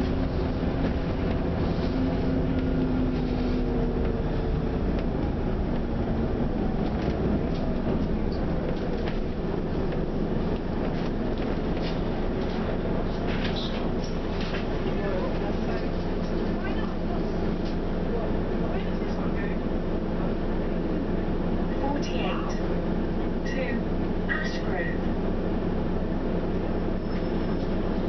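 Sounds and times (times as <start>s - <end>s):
bus diesel engine rumble: 0.0s - 28.0s
engine whine: 0.0s - 28.0s
road noise: 0.0s - 28.0s.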